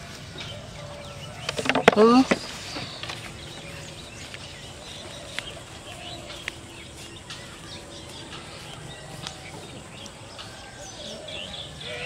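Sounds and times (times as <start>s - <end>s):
birds chirping: 0.0s - 12.0s
outdoor background hum: 0.0s - 12.0s.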